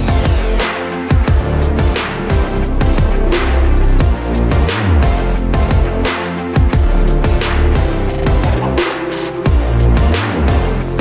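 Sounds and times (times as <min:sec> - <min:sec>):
electronic music with deep bass: 0:00.0 - 0:11.0
punchy drum beat: 0:00.0 - 0:11.0.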